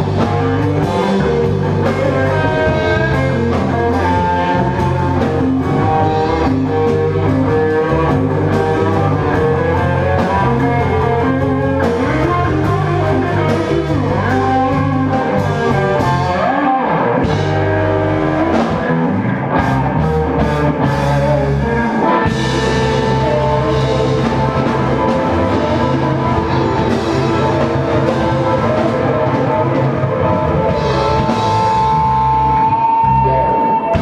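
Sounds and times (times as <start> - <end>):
blues-rock band playing: 0.0 - 34.0.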